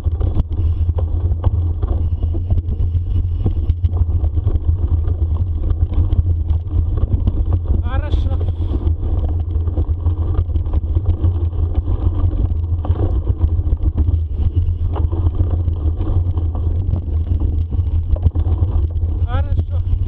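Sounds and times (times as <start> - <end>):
bicycle rattles and knocks: 0.0 - 20.0
wind rumble on microphone: 0.0 - 20.0.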